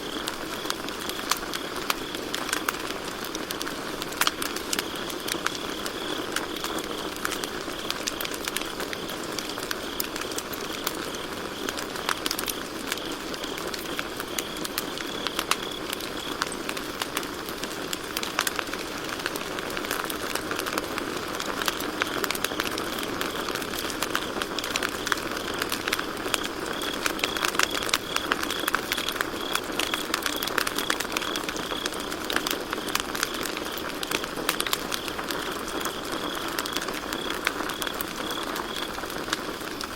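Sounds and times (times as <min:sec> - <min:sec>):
campfire crackling and popping: 0:00.0 - 0:39.9
crickets chirping: 0:04.4 - 0:39.6.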